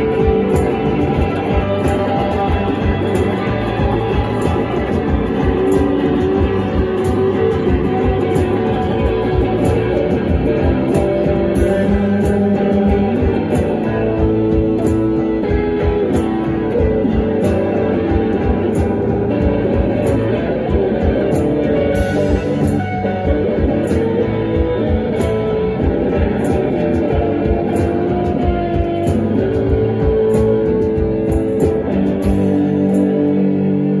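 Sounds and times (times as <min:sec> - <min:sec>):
bass guitar: 0:00.0 - 0:34.0
electric guitar: 0:00.0 - 0:34.0
steady drum beat: 0:00.0 - 0:34.0.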